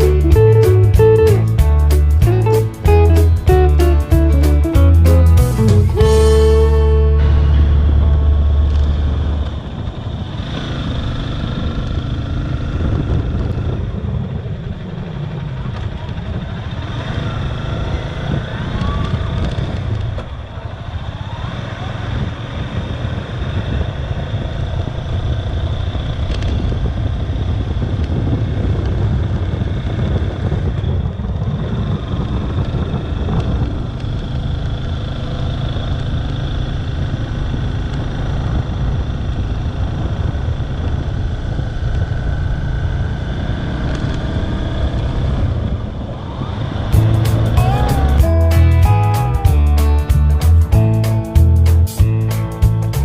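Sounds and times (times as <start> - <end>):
vehicle engine and road rumble: 0.0 - 53.0.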